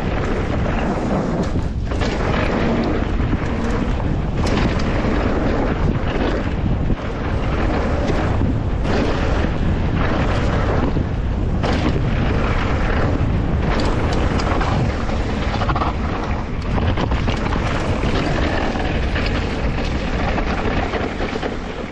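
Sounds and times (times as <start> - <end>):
bike rattling and knocking: 0.0 - 21.9
tyres rolling through mud and gravel: 0.0 - 21.9
wind buffeting microphone: 0.0 - 21.9.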